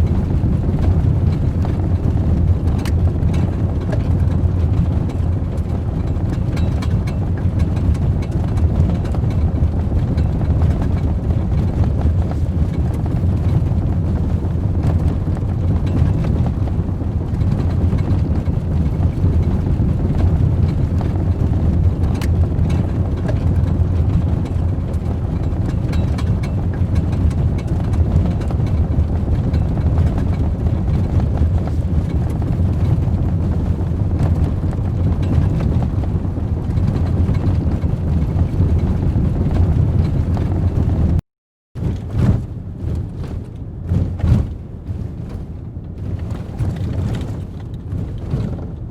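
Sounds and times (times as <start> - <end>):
truck engine rumbling steadily: 0.0 - 41.2, 41.8 - 48.9.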